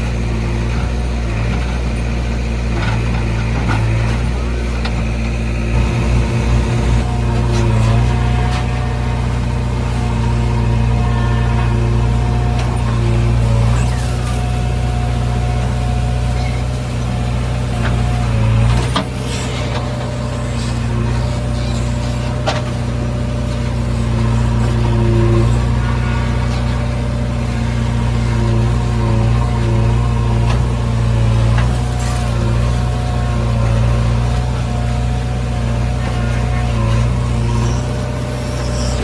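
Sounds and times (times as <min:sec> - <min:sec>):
backhoe diesel engine working: 0:00.0 - 0:39.0.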